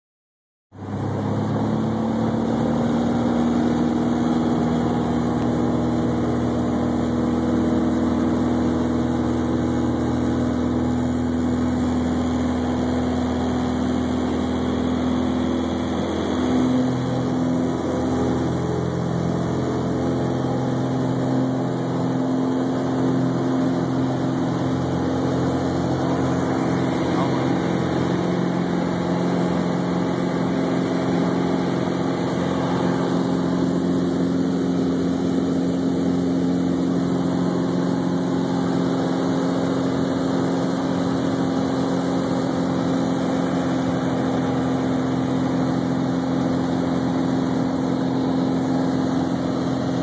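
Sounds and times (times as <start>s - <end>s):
piston engine and propeller drone: 0.7s - 50.0s.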